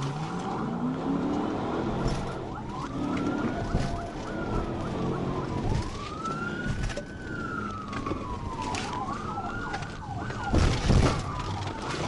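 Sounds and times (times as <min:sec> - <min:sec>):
engine and road noise: 0:00.0 - 0:12.0
police siren wailing: 0:00.0 - 0:12.0.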